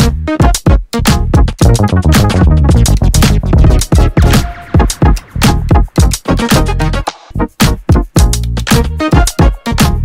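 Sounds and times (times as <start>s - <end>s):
electronic music with drum-machine beat: 0.0s - 10.0s.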